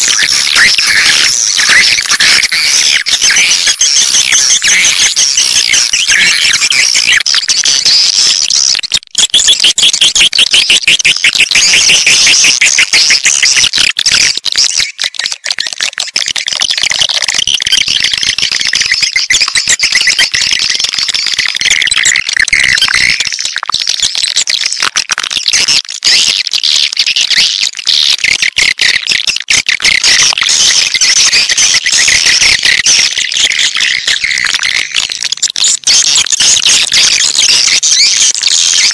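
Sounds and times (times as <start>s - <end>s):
swiftlets twittering and chirping: 0.0s - 38.9s.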